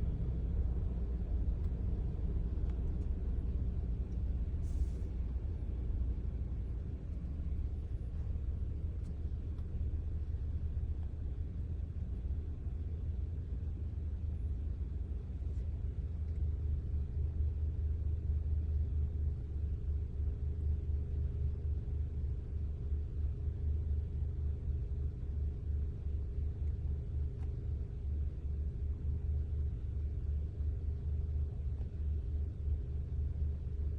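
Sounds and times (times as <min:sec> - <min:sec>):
low rumble: 0:00.0 - 0:33.9.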